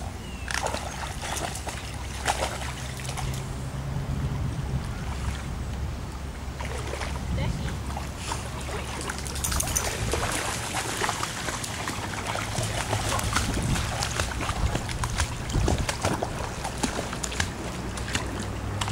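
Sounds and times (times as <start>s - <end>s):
dogs splashing through river water: 0.0s - 18.9s.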